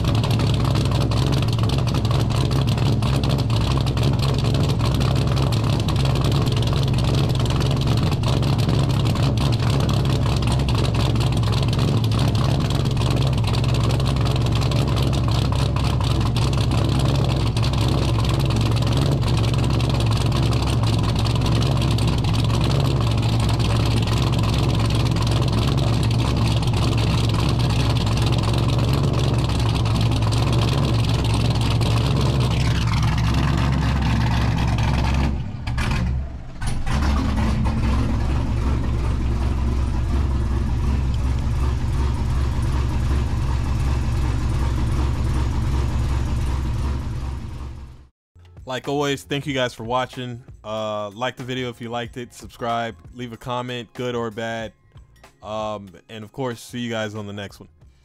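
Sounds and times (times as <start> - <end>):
car engine running: 0.0 - 48.6.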